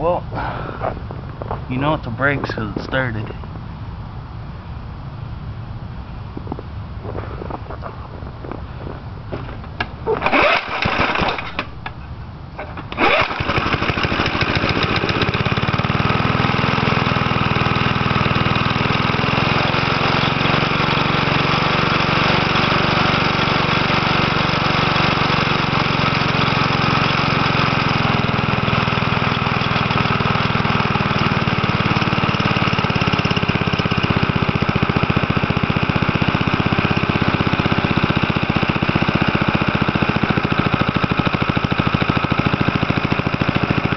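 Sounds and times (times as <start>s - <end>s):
lawn mower engine starting and running: 0.0s - 43.9s.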